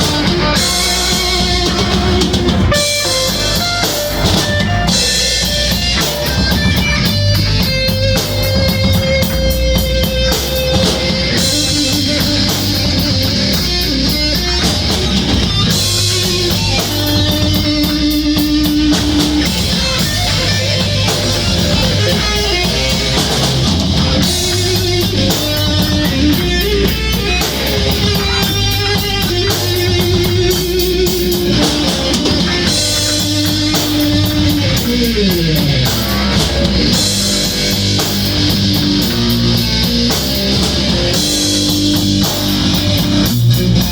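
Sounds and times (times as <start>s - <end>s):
drum kit: 0.0s - 43.9s
electric guitar: 0.0s - 43.9s.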